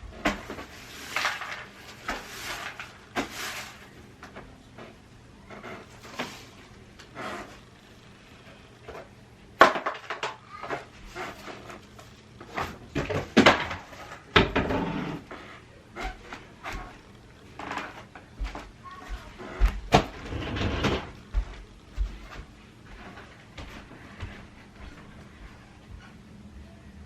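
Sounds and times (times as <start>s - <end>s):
rustling of handled things: 0.0s - 26.2s.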